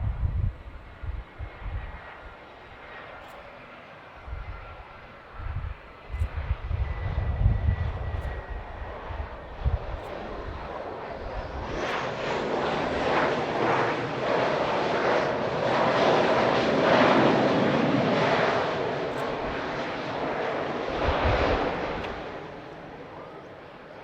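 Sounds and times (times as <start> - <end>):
jet airliner engines roaring: 0.0 - 24.0.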